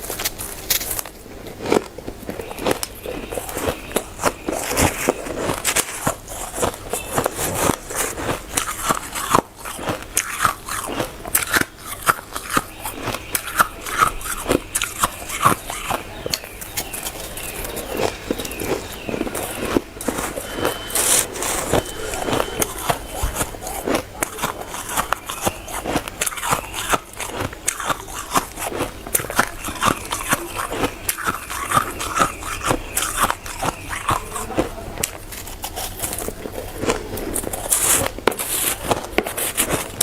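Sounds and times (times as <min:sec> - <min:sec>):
shaved ice crunching: 0:00.0 - 0:40.0.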